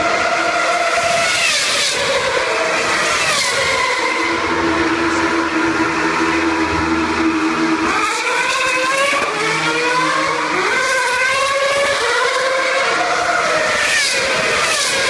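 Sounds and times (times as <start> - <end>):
race cars passing at high revs: 0.0 - 15.0.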